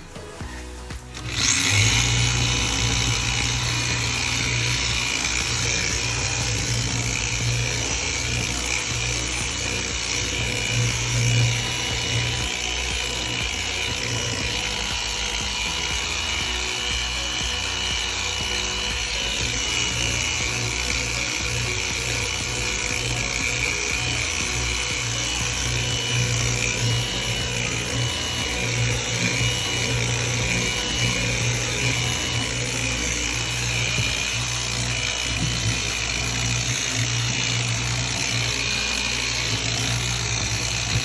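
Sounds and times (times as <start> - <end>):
power tool running: 0.0 - 41.0.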